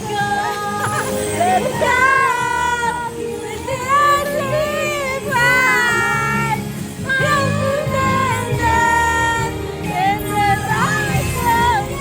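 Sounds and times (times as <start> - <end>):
backing track: 0.0 - 12.0.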